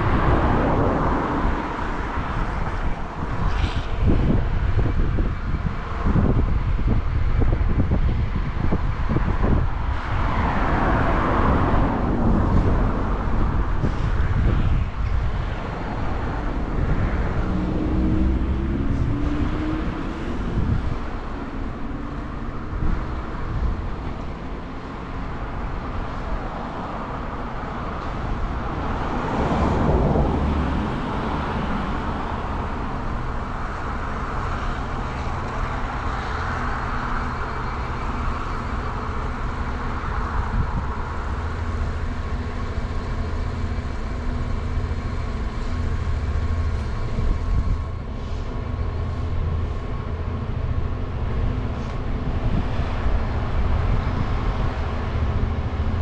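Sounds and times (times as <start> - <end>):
diesel train engine drone: 0.0 - 56.0
train rushing noise: 0.0 - 56.0.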